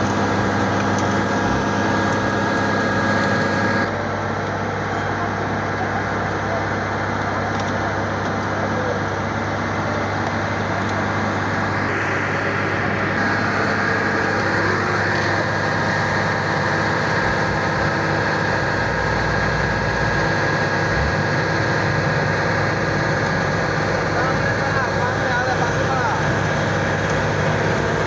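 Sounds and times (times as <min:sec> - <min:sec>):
diesel engine running: 0:00.0 - 0:28.0
steady high whine: 0:00.0 - 0:28.0.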